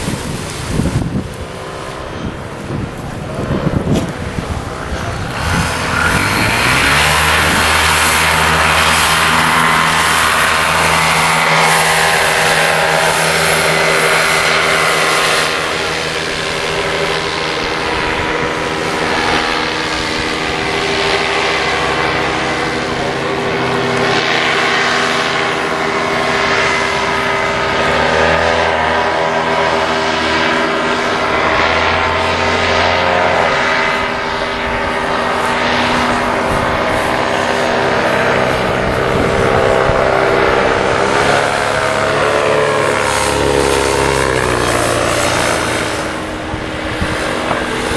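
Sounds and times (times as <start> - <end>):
paramotor engine and propeller: 0.0 - 47.9.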